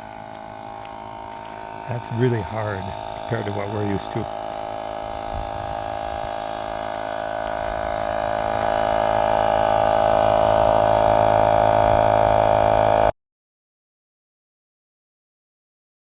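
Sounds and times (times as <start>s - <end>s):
electric tire pump buzzing: 0.0s - 13.1s.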